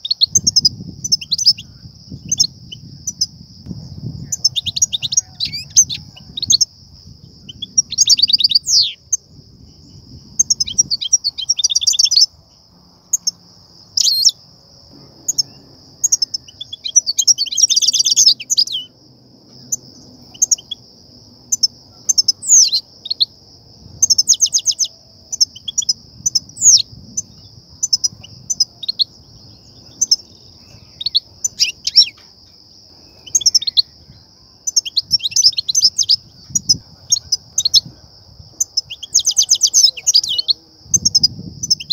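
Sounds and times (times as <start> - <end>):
finches chattering trills: 0.0 - 3.4, 4.0 - 12.4, 13.1 - 20.8, 21.4 - 23.3, 24.0 - 41.9.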